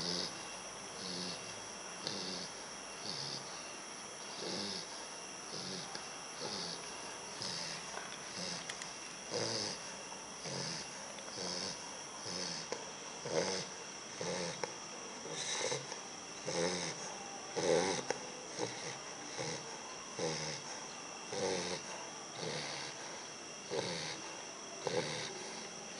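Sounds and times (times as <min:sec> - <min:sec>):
puppy snoring: 0:00.0 - 0:25.9.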